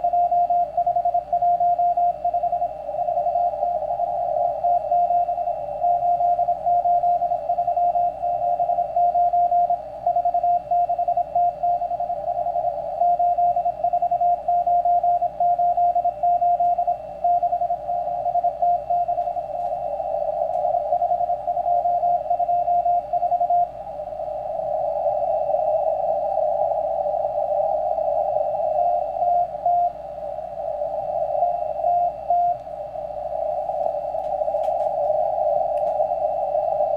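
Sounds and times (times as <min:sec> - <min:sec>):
morse code beeps: 0:00.0 - 0:23.7, 0:28.1 - 0:36.9
radio static hiss: 0:00.0 - 0:36.9.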